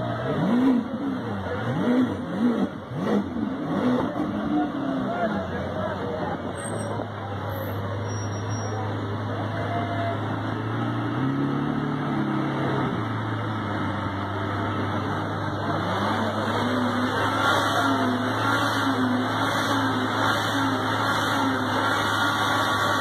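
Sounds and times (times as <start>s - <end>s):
engine revving: 0.0s - 7.1s, 8.8s - 23.0s
car engines idling: 0.0s - 23.0s.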